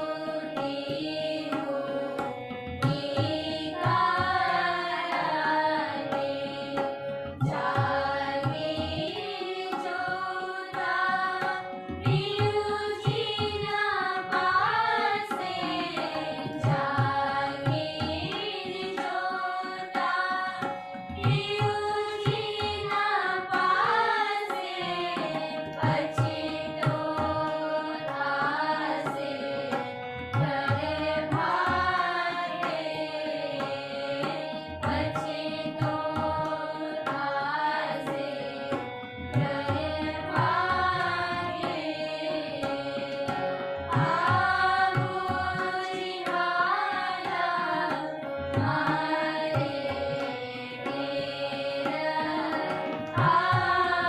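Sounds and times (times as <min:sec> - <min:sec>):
harmonium held notes: 0:00.0 - 0:54.0
women singing together: 0:00.0 - 0:54.0.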